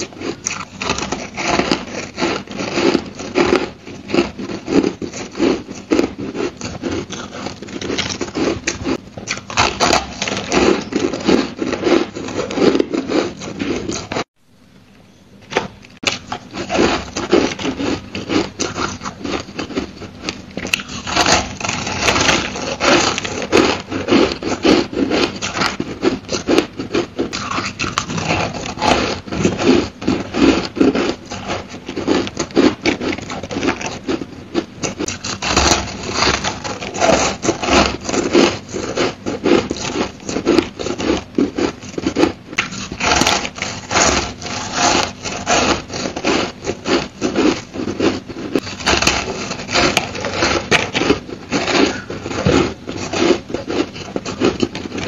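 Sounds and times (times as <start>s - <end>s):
crushed ice crunching: 0.0s - 14.3s, 16.0s - 55.0s.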